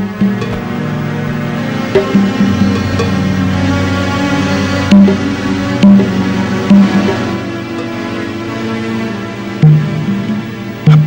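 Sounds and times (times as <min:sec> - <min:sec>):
film score chord held: 0:00.0 - 0:10.9.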